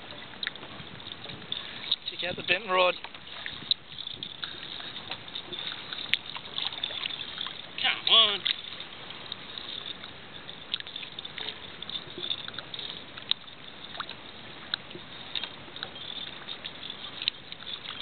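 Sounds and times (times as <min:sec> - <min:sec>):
water washing around a hull: 0:00.0 - 0:18.0.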